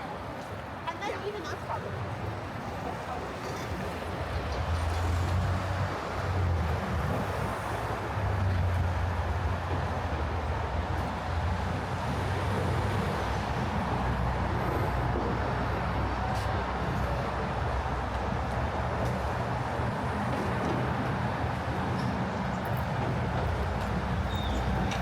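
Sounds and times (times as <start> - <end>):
road noise: 0.0 - 25.0
vehicle engines rumbling: 0.0 - 25.0.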